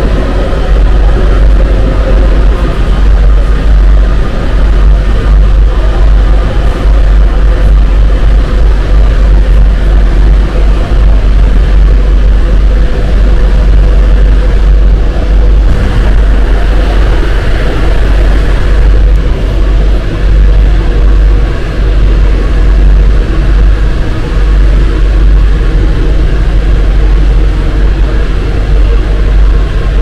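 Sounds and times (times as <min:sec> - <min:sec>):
faint steady tones: 0:00.0 - 0:30.0
metro train low rumble: 0:00.0 - 0:30.0.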